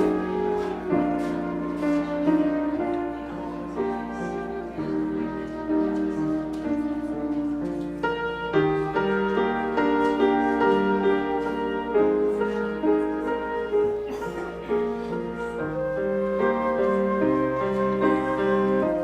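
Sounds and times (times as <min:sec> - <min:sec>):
instrumental keyboard music: 0:00.0 - 0:19.0.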